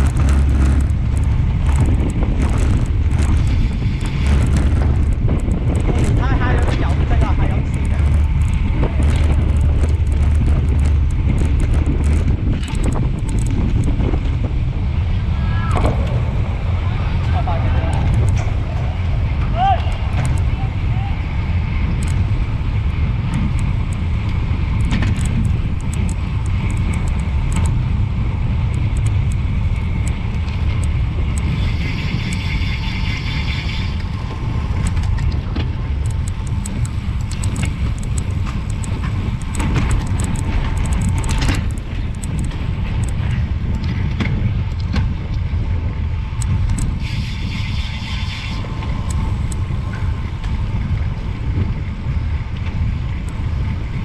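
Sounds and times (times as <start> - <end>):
bicycle freehub buzzing: 0.0 - 17.4, 18.0 - 54.0
wind buffeting camera: 0.0 - 54.0.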